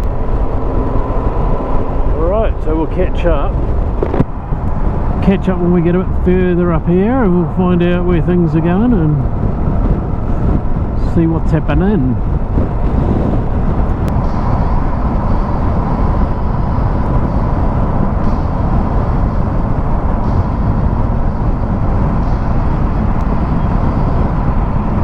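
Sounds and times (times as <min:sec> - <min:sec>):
motorcycle engine cruising: 0:00.0 - 0:25.0
wind rush: 0:00.0 - 0:25.0.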